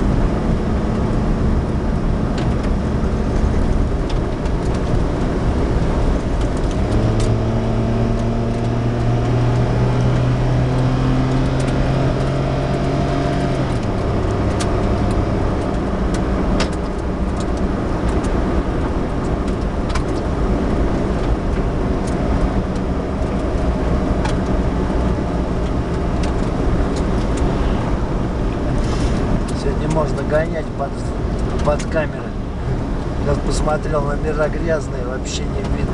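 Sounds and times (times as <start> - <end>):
car engine: 0.0 - 35.9
road and tyre noise: 0.0 - 35.9.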